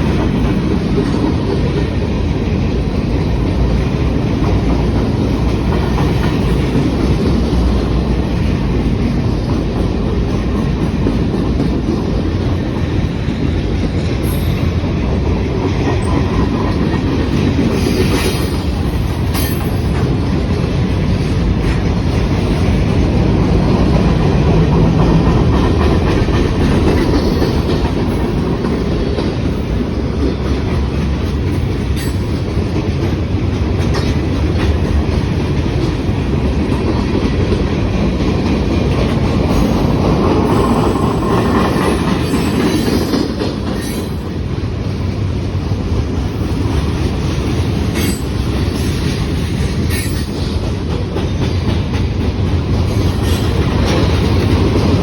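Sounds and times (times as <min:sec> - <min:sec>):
train wheels rumbling on rails: 0:00.0 - 0:55.0
wheels clicking over rail joints: 0:00.0 - 0:55.0.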